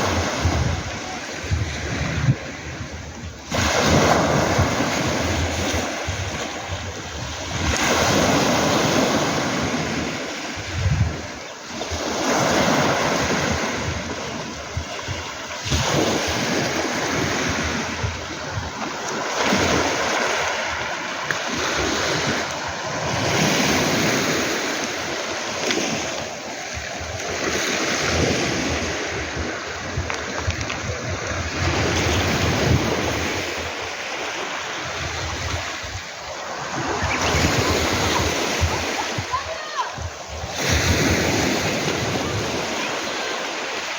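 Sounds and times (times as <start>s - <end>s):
wind rumble on microphone: 0.0s - 43.8s
waves breaking on pebbles: 0.0s - 43.9s.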